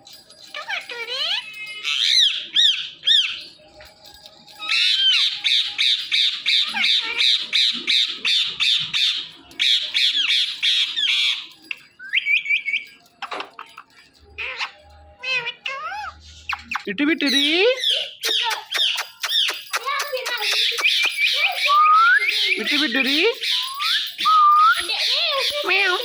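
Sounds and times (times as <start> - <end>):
parrot squawking: 0.5 - 3.5, 4.6 - 13.0, 14.4 - 19.6, 20.2 - 26.0.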